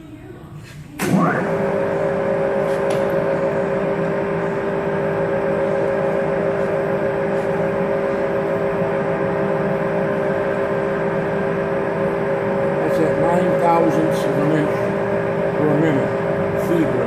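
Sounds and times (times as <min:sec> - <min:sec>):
drill press mechanical whine: 0:00.5 - 0:17.0.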